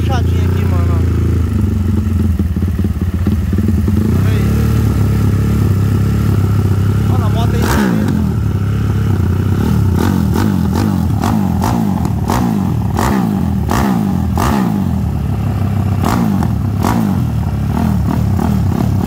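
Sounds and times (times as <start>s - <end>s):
motorcycle engine revs blipping: 0.0s - 19.0s.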